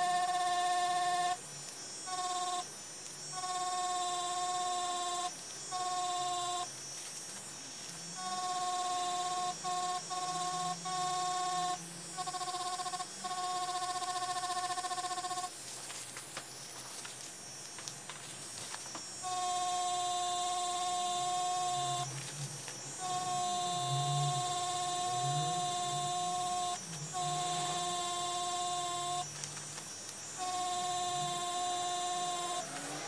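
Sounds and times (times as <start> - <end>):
tattoo machine buzzing hum: 0.0 - 33.0.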